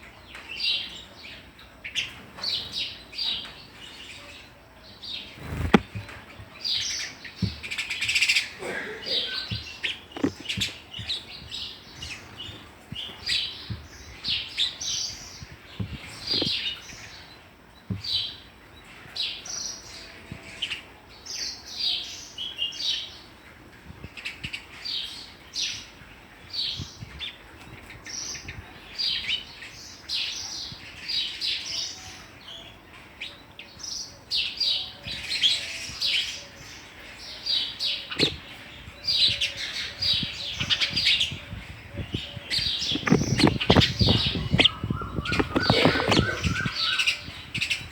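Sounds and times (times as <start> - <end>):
sparrows chirping: 0.0 - 47.9.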